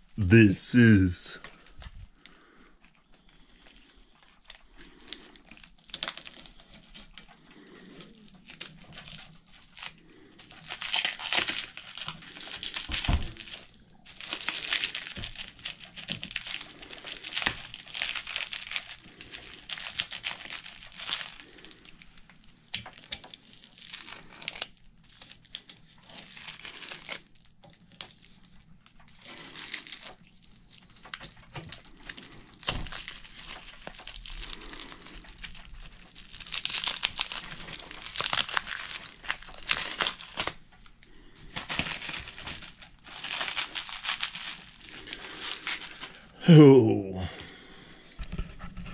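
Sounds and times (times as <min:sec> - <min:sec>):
plastic wrap crinkling and tearing: 0:00.0 - 0:46.4.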